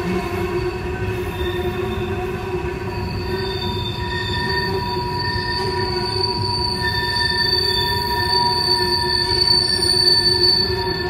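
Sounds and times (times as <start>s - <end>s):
rumble of wheels on rail: 0.0s - 11.0s
train wheels squealing: 0.0s - 11.0s.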